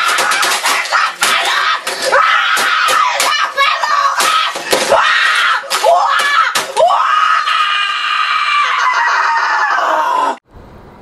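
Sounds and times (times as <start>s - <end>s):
boy screaming in rage: 0.0s - 10.4s.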